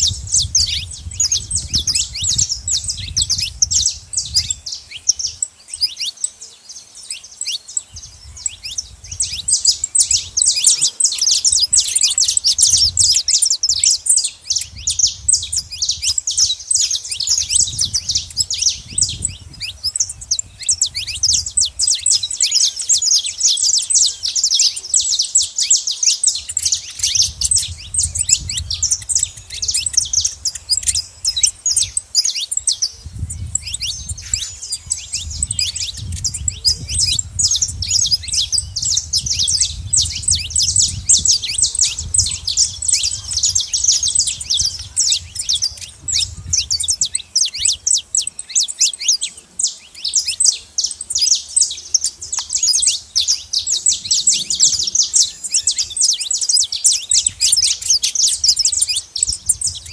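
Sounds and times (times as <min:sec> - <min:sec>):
finches chirping and singing: 0:00.0 - 0:59.9.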